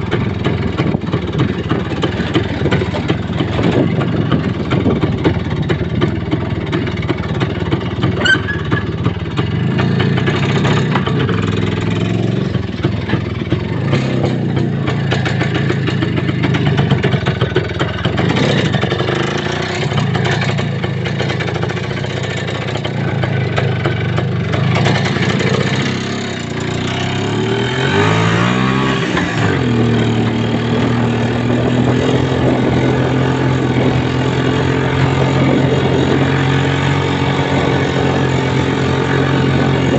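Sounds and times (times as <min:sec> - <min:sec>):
rattling background: 0:00.0 - 0:39.9
vehicle engine running: 0:00.0 - 0:39.9.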